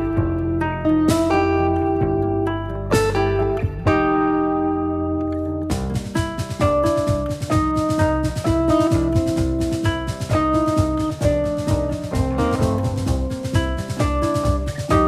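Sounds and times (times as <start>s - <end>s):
band music with drum kit: 0.0s - 2.2s, 2.9s - 4.1s, 5.7s - 15.0s.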